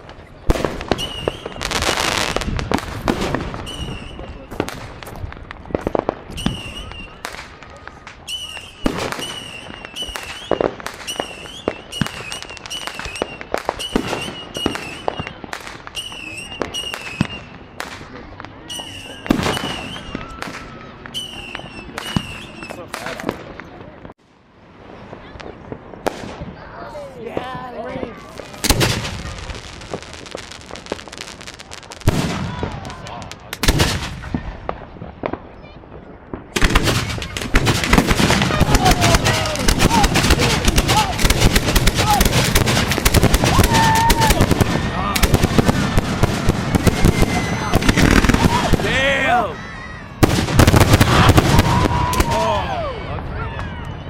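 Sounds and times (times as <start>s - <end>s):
firework bangs and pops: 0.0s - 24.2s, 25.1s - 26.7s, 27.3s - 49.3s, 50.2s - 53.8s
whistling fireworks: 0.0s - 24.2s, 24.9s - 54.0s.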